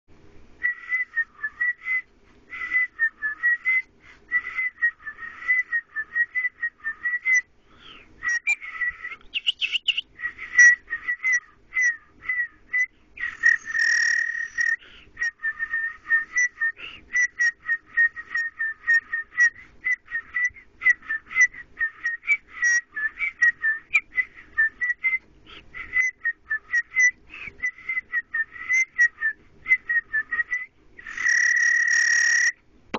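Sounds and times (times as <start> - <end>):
man whistling short notes: 0.6 - 7.5, 8.2 - 32.5.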